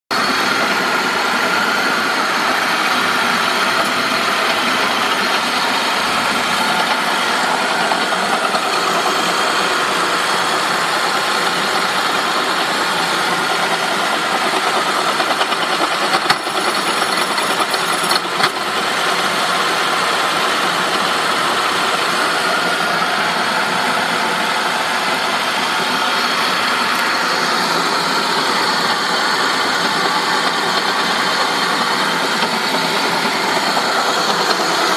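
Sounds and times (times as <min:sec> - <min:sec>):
car engine with metallic grinding: 0:00.1 - 0:34.9.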